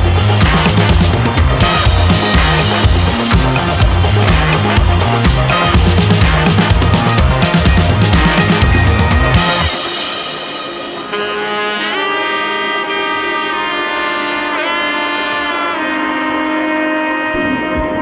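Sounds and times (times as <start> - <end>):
melodic music with held notes: 0.0 - 18.0.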